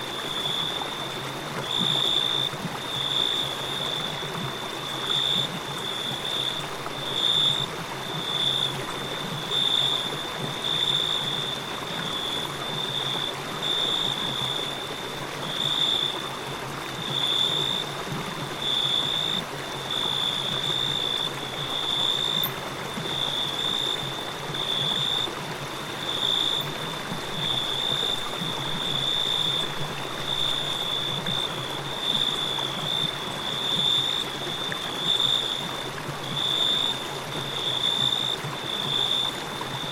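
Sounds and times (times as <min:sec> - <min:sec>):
crickets chirping: 0:00.0 - 0:39.9
river flowing: 0:00.0 - 0:39.9.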